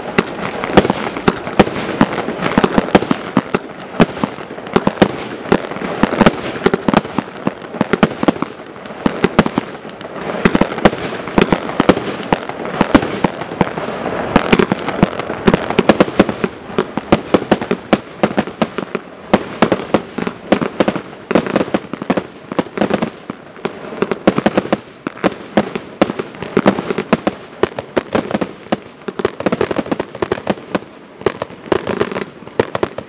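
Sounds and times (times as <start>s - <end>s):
fireworks firing rapidly: 0.0s - 33.0s.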